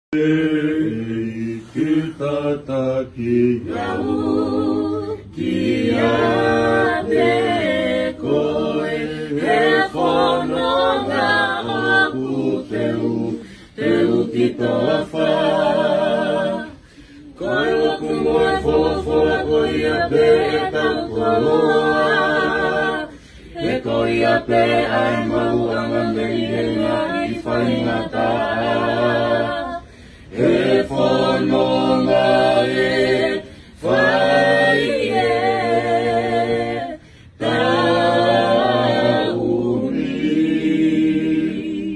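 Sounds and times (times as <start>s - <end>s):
group singing a hymn unaccompanied: 0.1s - 41.9s.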